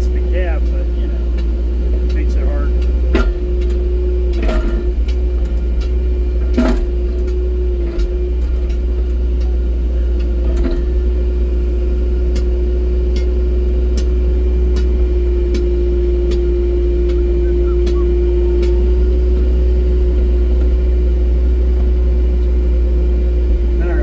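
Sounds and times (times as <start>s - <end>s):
machine knocks and clunks: 0.0s - 22.8s
excavator engine humming: 0.0s - 24.0s.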